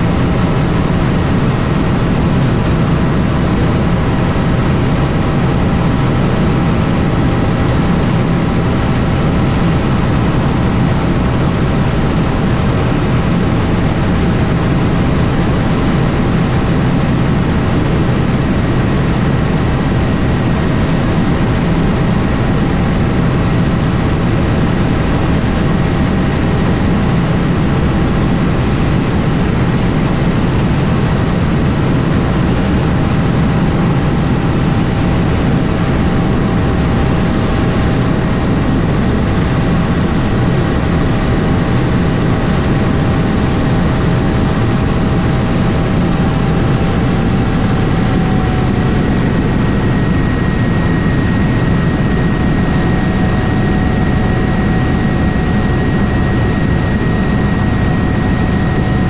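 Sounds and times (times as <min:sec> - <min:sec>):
helicopter running: 0:00.0 - 0:59.0
thin high whine: 0:00.0 - 0:59.0.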